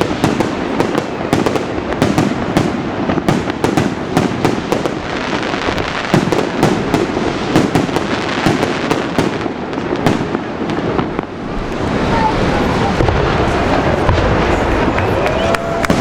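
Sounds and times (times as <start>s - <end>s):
fireworks bursting and cracking: 0.0s - 16.0s.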